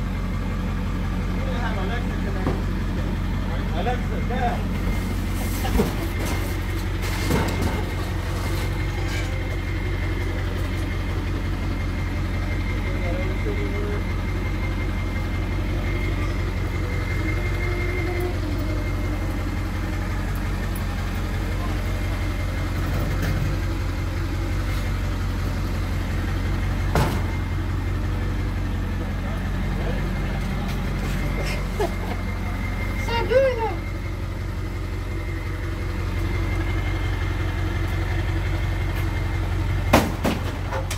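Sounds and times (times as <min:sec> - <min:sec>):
vehicle engine idling: 0:00.0 - 0:40.9.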